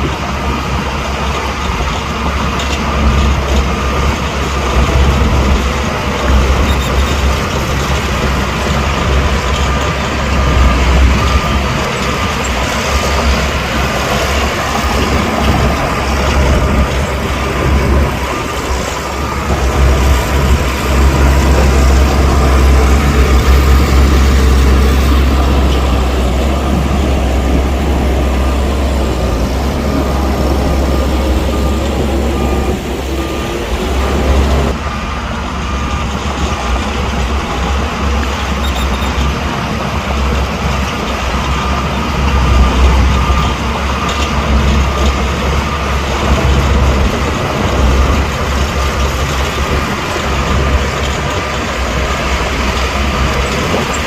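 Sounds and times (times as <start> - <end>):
heavy diesel machinery engine drone: 0.0 - 54.0.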